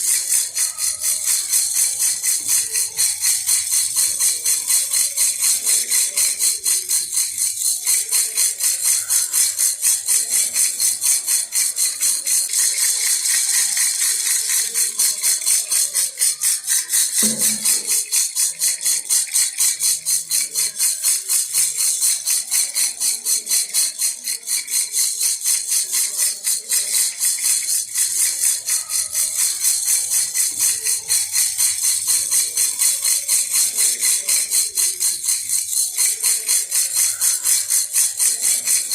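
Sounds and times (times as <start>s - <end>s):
baby rattle jingling: 0.0s - 38.9s.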